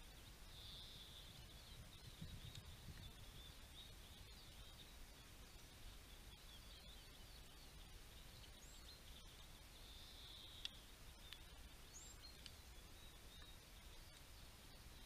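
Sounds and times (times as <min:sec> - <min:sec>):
songbirds twittering and chirping: 0:00.0 - 0:15.0.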